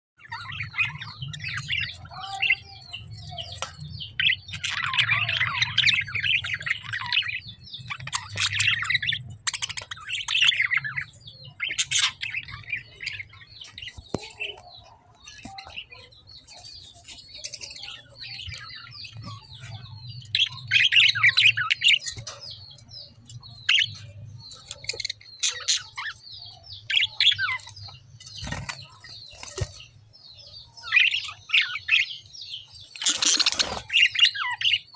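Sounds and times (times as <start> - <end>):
lovebirds chirping: 0.2 - 34.9.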